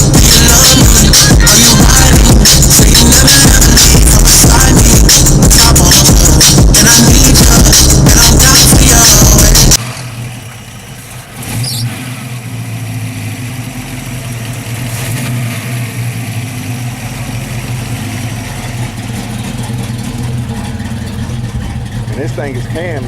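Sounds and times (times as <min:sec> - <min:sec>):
car engine idling unevenly: 0:00.0 - 0:23.0.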